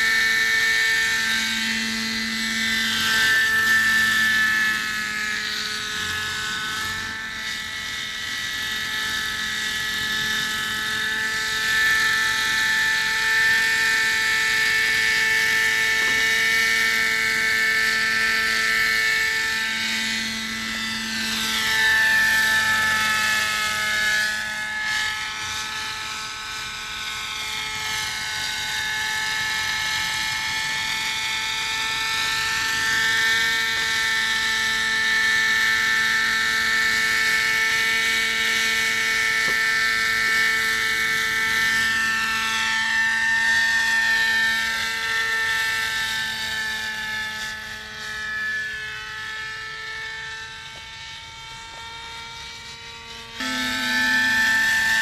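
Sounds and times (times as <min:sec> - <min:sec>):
model helicopter engine: 0:00.0 - 0:55.0.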